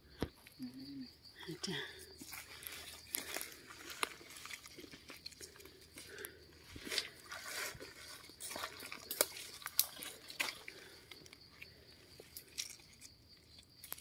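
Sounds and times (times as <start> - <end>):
sharp clicks and crunches: 2.3 - 14.0.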